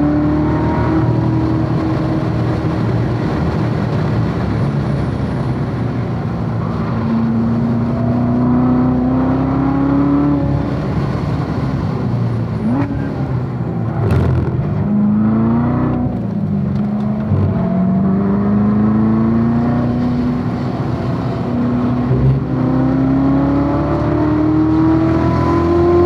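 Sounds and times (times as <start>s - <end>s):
sports car engine accelerating: 0.0s - 26.0s.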